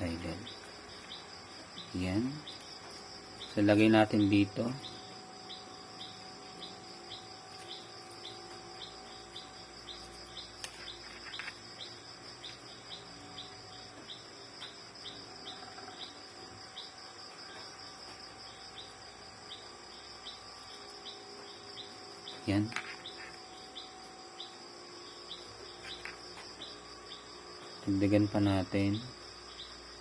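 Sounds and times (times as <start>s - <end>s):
crickets chirping: 0.0s - 30.0s
high insect drone: 0.0s - 30.0s.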